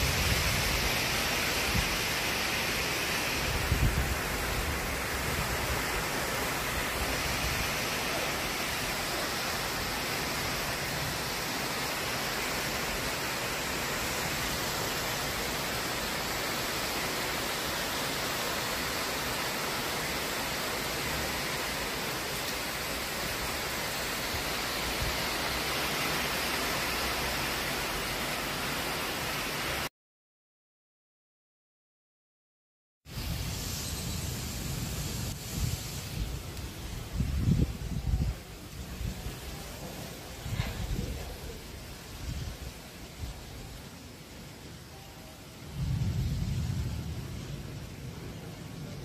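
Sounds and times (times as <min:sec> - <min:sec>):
heavy rain pouring: 0:00.0 - 0:29.9, 0:33.1 - 0:49.0.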